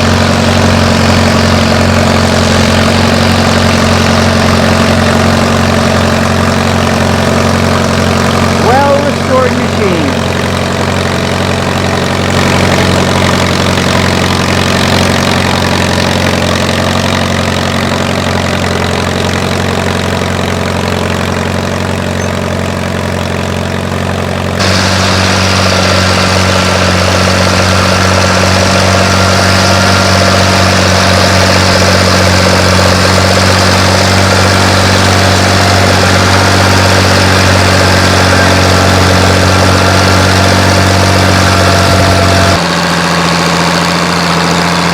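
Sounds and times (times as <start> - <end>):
tractor engines running: 0.0 - 44.9.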